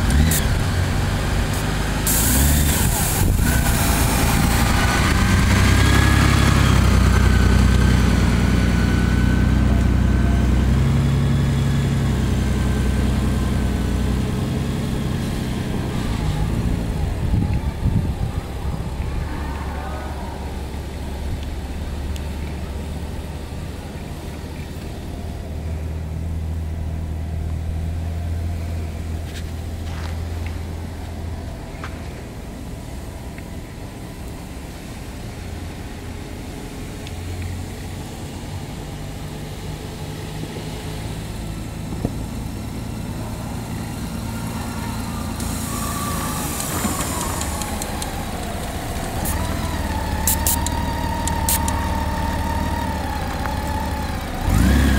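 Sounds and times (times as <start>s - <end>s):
motorcycle engine low hum: 0.0s - 54.9s.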